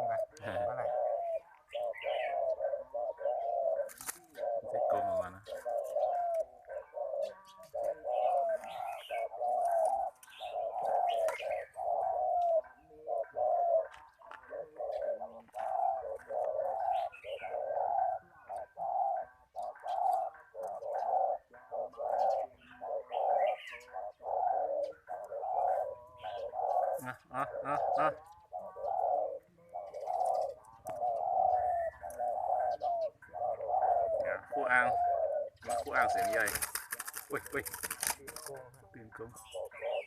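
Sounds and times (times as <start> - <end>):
dove cooing: 0.0 - 40.0.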